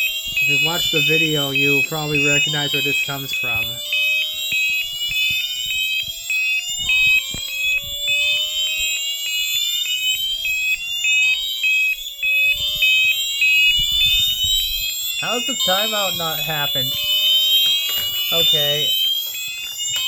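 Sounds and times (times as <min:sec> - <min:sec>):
fire alarm pulsing high tone: 0:00.0 - 0:20.0
low rising alarm sweeps: 0:00.0 - 0:20.0.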